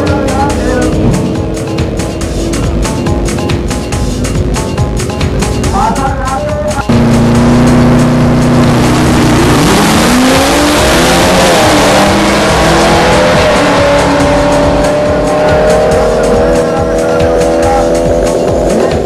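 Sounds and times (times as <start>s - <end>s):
racing engine revving: 0.0s - 5.7s, 6.8s - 19.0s.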